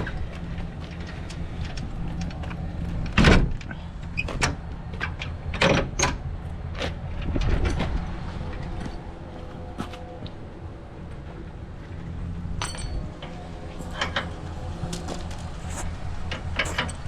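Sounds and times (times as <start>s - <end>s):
steady low rumble: 0.0s - 17.0s
trailer clanks and knocks: 0.0s - 17.0s.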